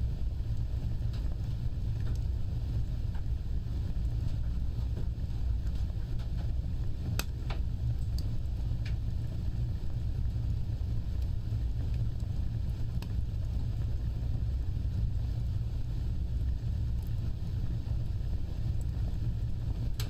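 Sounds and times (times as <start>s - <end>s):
fire burning rumble: 0.0s - 20.0s
fire crackles and pops: 0.0s - 20.0s.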